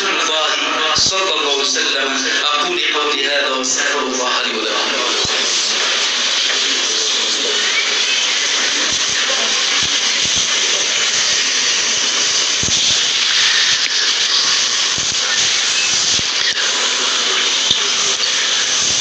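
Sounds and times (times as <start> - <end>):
recording hiss: 0.0 - 19.0.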